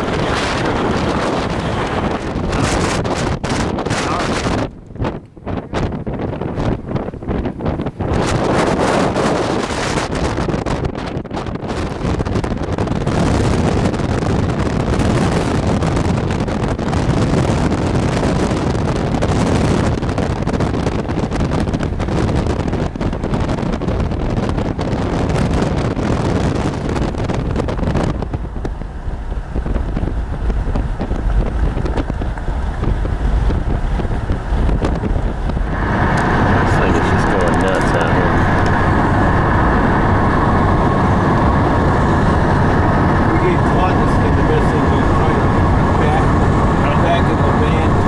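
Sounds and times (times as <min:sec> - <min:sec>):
storm wind buffeting microphone: 0:00.0 - 0:48.0.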